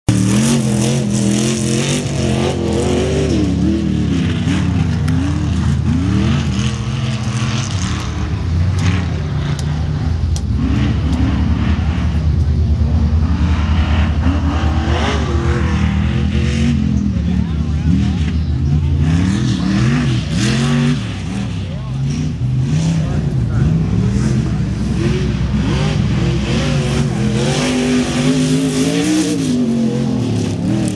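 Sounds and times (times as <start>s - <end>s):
truck engine revving: 0.1s - 30.9s.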